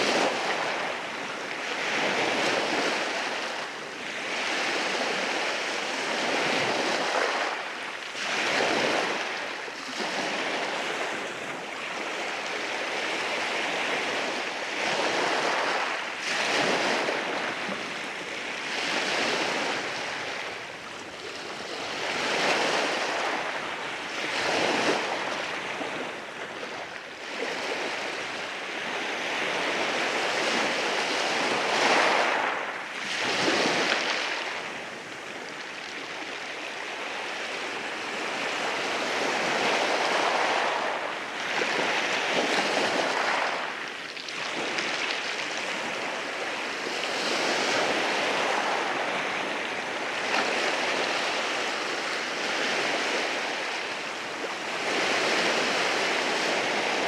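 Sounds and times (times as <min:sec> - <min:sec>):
waves washing over rocks: 0:00.0 - 0:57.0.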